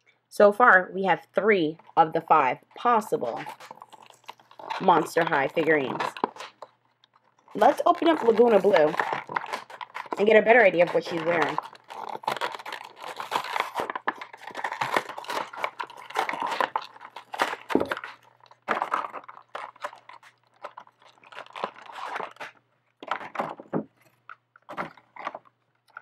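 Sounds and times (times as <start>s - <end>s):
packaging crinkling and tearing: 2.6s - 26.0s.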